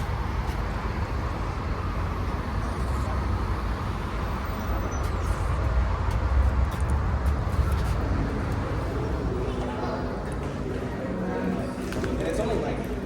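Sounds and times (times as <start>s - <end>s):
car engine and road rumble: 0.0s - 11.8s.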